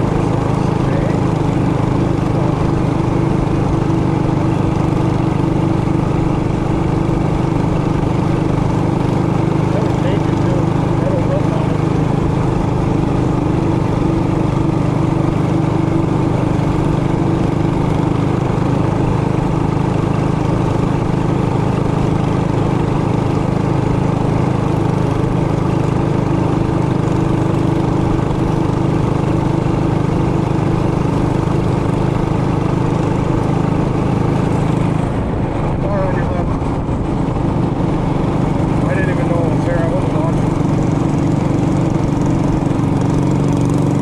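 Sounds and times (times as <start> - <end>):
mini bike engine running: 0.0 - 44.0.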